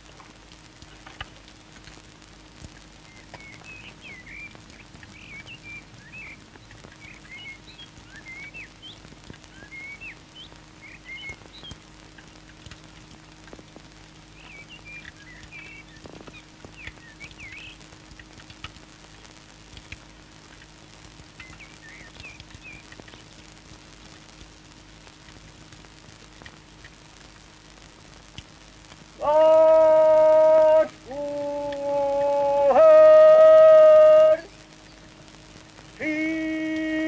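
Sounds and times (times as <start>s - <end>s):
steady low hum: 0.0s - 37.0s
small birds chirping: 0.2s - 27.4s, 28.1s - 32.7s.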